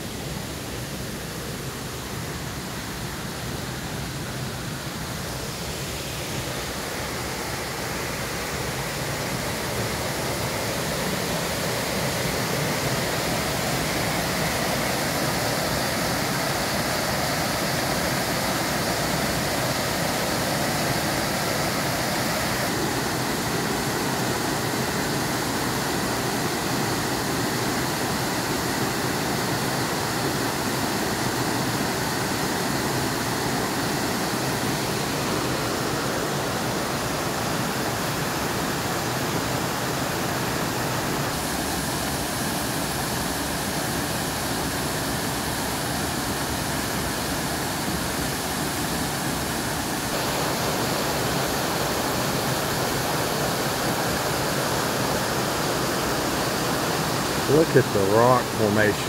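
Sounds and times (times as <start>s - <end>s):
water rushing over falls: 0.0s - 59.0s.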